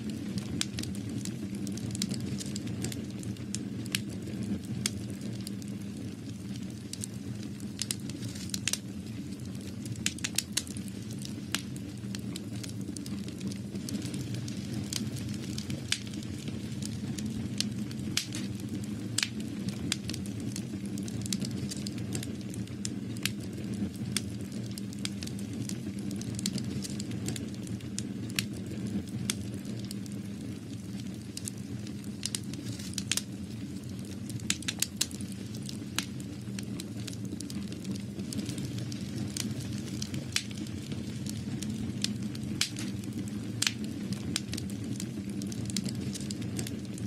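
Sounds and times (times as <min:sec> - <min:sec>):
sharp crackles and pops: 0:00.0 - 0:47.0.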